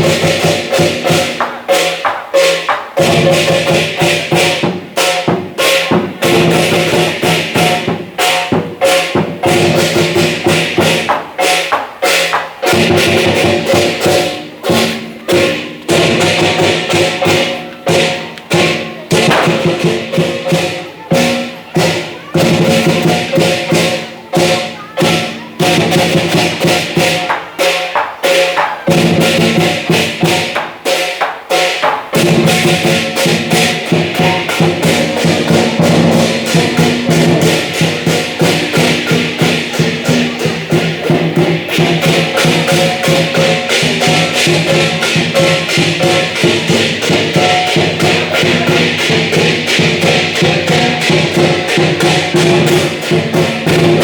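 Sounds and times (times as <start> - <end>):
crashing cymbals: 0.0 - 54.0
drum beating: 0.0 - 54.0.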